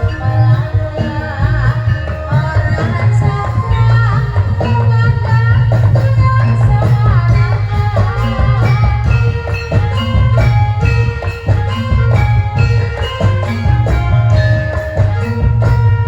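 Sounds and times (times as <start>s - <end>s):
drums keeping a steady beat: 0.0s - 16.0s
wavering melodic line: 0.0s - 16.0s.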